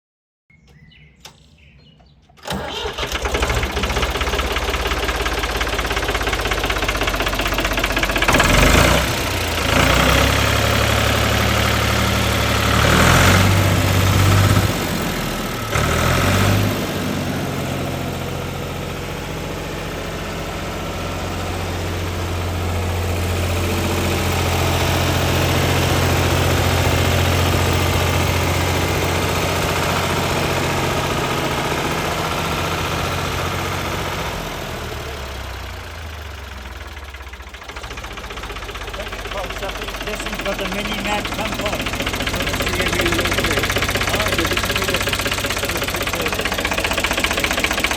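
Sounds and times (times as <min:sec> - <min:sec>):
diesel engine idling: 0:00.6 - 0:47.9
diesel engine starting and revving: 0:00.6 - 0:47.9.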